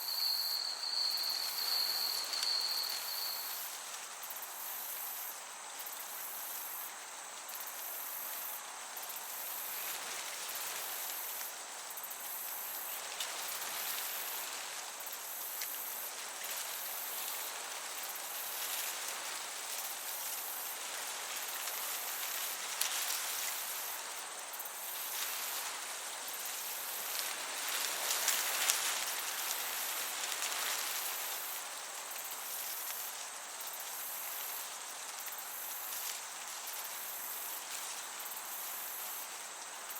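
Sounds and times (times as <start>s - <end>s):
breeze rustling grass: 0.0s - 39.9s
crickets chirping: 0.0s - 39.9s.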